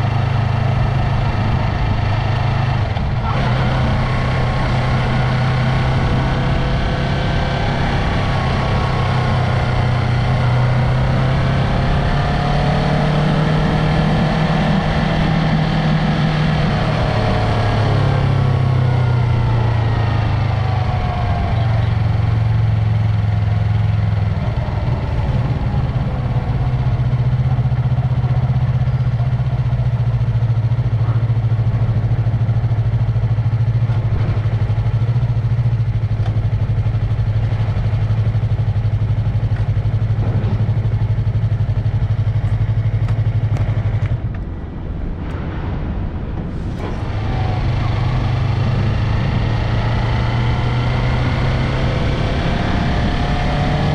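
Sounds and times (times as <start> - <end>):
motorcycle engine droning: 0.0 - 53.9.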